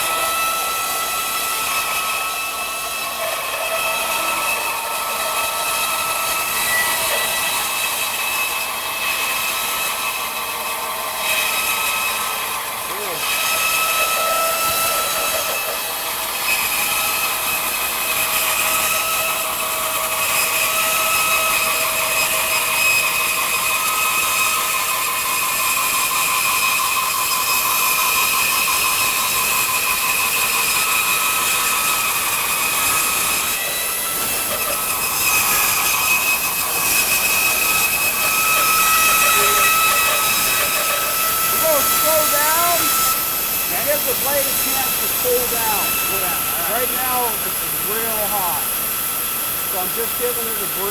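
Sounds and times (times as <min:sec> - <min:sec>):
bandsaw whining: 0:00.0 - 0:50.9
hiss of saw cutting wood: 0:00.0 - 0:50.9.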